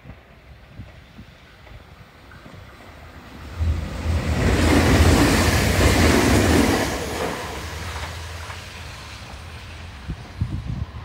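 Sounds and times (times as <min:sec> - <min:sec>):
electric train passing: 0:00.2 - 0:11.0.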